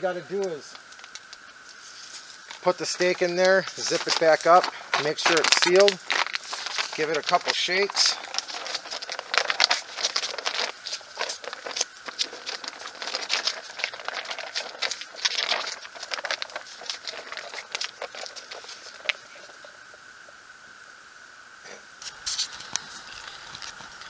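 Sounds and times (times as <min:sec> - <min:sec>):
plastic bag crinkling: 0:00.4 - 0:19.7.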